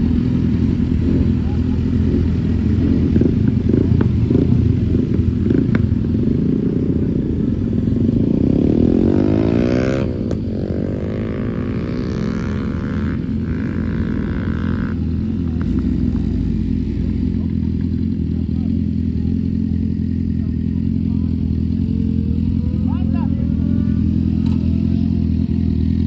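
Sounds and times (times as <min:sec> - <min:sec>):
car engine revving: 0:00.0 - 0:26.0
road rumble: 0:00.0 - 0:26.0.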